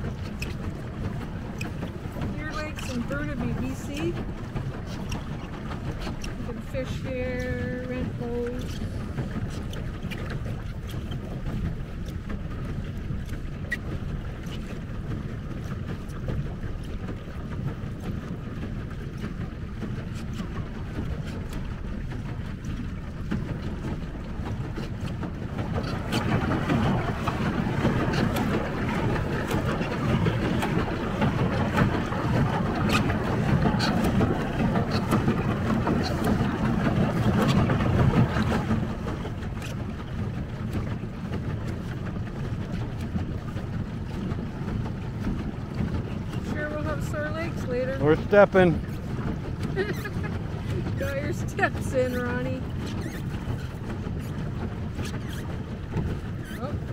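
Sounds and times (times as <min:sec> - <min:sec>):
water splashing against boat: 0:00.0 - 0:56.9
wind buffeting microphone: 0:00.0 - 0:56.9.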